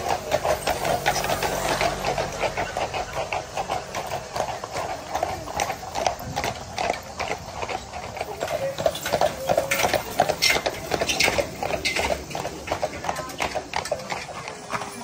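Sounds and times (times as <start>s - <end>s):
horse hooves clip-clopping on pavement: 0.0s - 15.0s.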